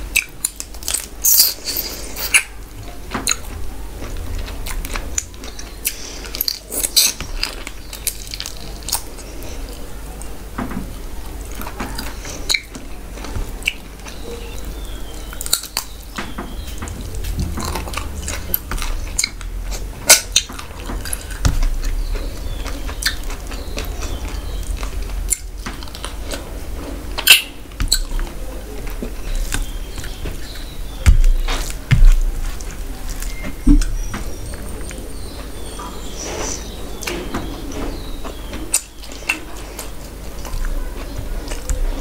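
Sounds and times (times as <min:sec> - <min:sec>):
wet chewing: 0:00.0 - 0:42.0.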